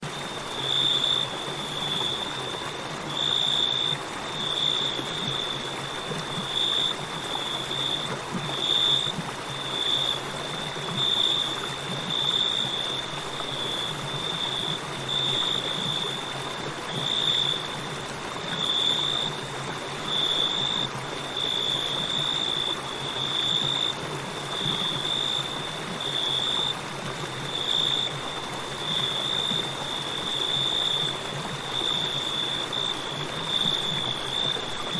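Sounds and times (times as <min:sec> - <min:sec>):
river flowing: 0:00.0 - 0:34.9
crickets chirping: 0:00.1 - 0:34.9.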